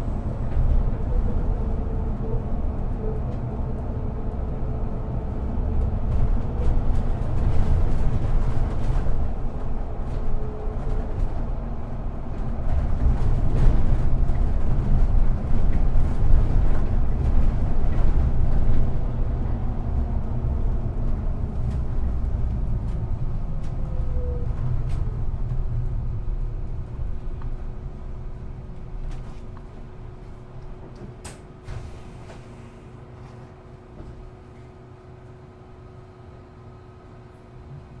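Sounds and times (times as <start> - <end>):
bus engine and road rumble: 0.0 - 38.0.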